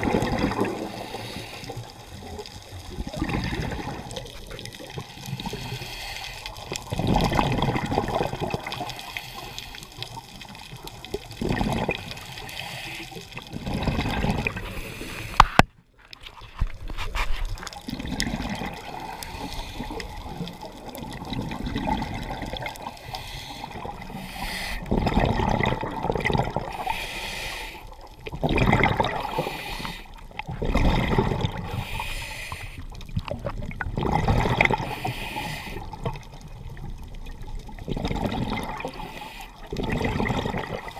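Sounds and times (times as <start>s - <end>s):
underwater bubbles rushing: 0.0s - 15.6s, 16.4s - 27.1s, 27.8s - 40.9s.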